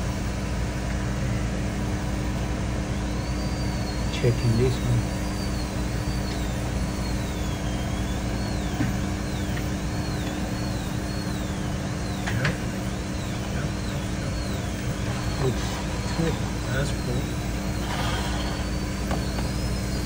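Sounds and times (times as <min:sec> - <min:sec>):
suction running with rushing hum: 0:00.0 - 0:20.0
thin high wavering whine: 0:00.0 - 0:20.0.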